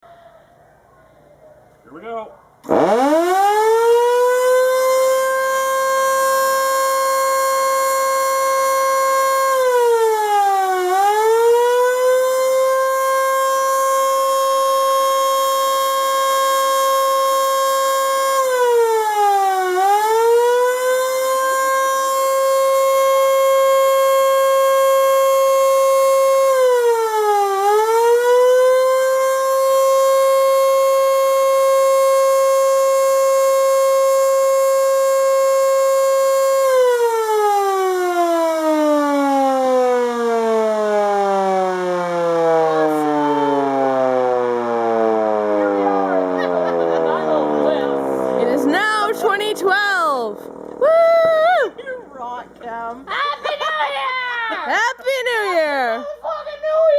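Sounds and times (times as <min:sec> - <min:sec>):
air raid siren wailing: 0:02.7 - 0:52.7.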